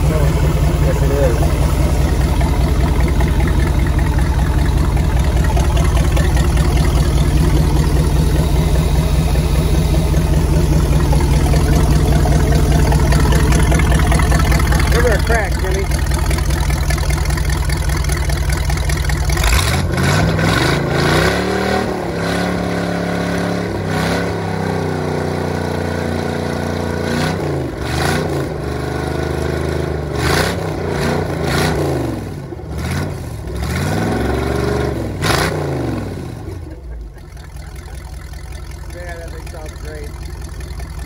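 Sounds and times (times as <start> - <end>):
engine idling and revving: 0.0 - 41.0.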